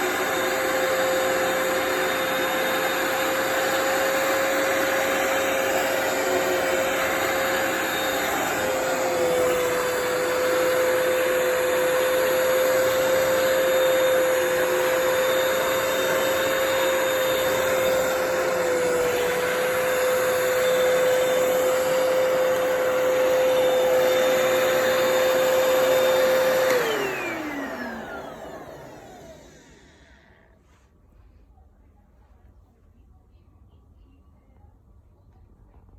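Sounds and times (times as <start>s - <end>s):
carpet cleaner motor whine: 0.0s - 30.6s.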